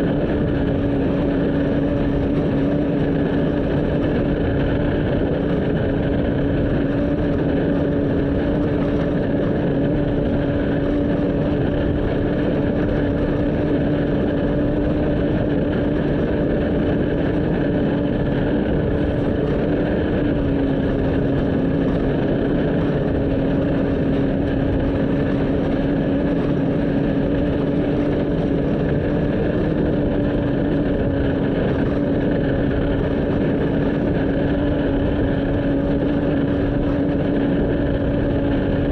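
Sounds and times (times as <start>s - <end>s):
race vehicle engine: 0.0s - 38.9s.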